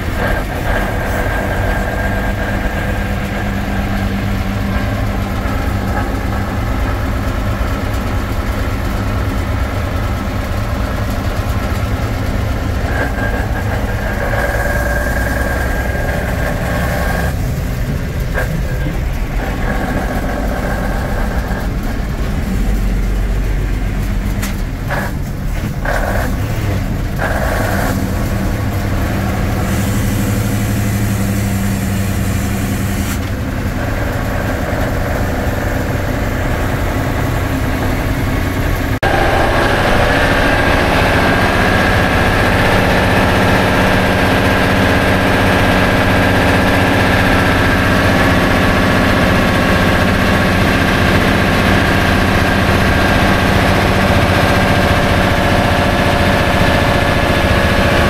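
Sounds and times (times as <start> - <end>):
diesel truck engine running: 0.0 - 58.0
steady engine whine: 0.0 - 58.0.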